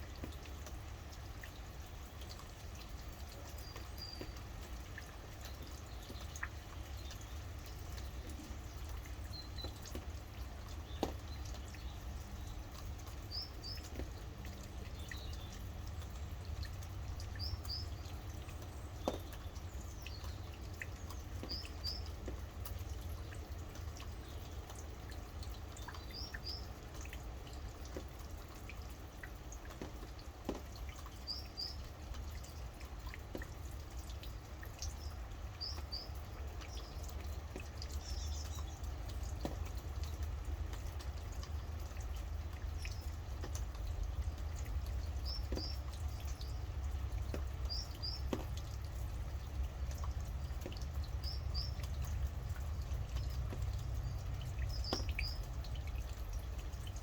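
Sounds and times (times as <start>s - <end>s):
rain dripping: 0.0s - 57.0s.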